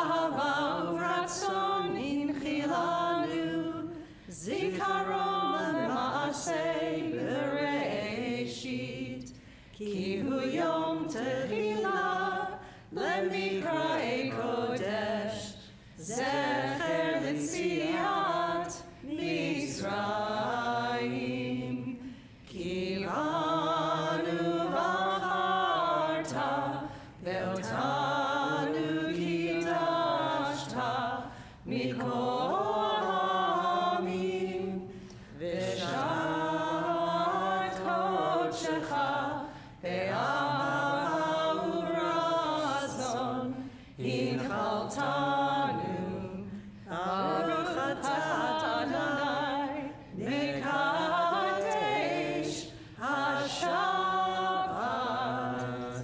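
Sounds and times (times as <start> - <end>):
congregation singing: 0.0 - 56.0.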